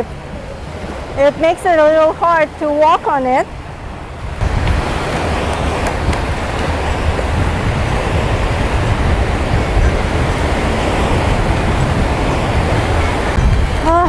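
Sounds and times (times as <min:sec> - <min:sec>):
ocean surf washing onto beach: 0:00.0 - 0:14.0
wind rumbling on microphone: 0:00.0 - 0:14.0.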